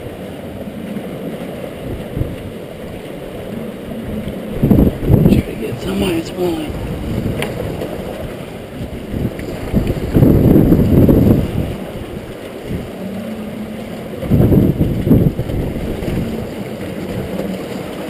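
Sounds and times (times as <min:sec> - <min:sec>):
low water surges: 0:00.0 - 0:18.0
river water rushing and churning: 0:00.0 - 0:18.0.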